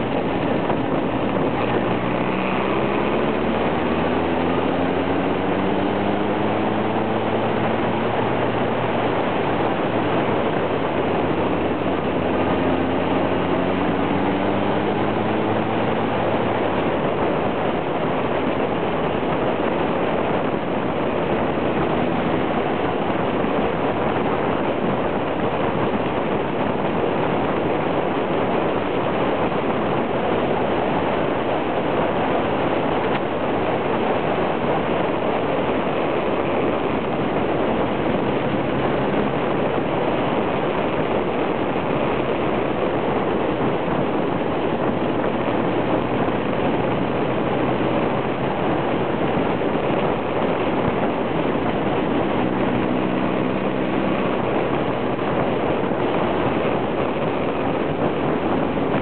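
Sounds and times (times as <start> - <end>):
motorcycle engine rising: 0.0 - 59.0
wind and road noise: 0.0 - 59.0.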